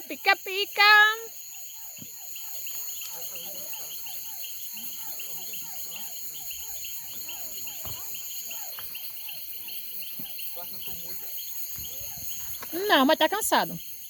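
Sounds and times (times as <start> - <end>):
crickets chirping: 0.0 - 14.0
insect high buzz: 0.0 - 14.0
lower falling insect call: 0.0 - 14.0.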